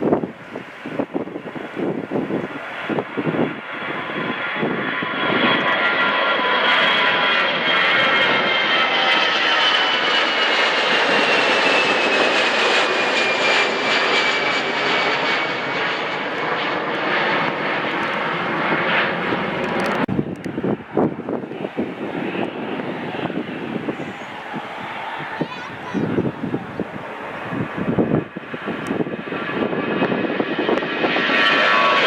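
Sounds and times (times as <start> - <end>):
jet engines roaring and whining: 0.0 - 32.0.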